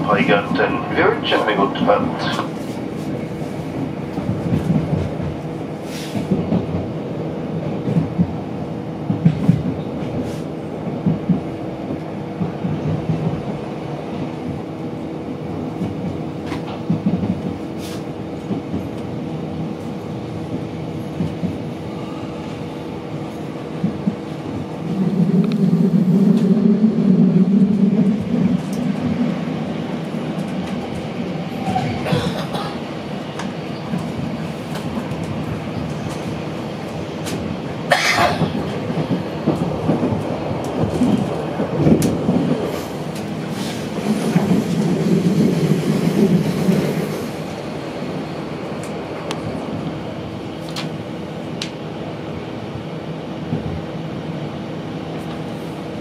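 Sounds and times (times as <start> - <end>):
train rumble on track: 0.0 - 56.0.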